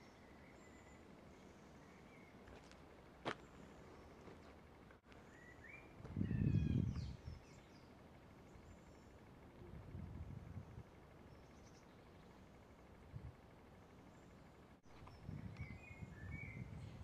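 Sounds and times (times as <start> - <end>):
small birds chirping: 0.0 - 9.6, 10.5 - 17.0.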